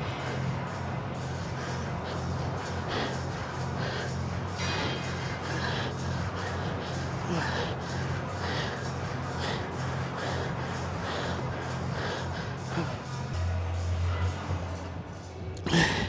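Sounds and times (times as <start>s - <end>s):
man breathing hard: 0.2s - 13.4s, 15.6s - 16.0s.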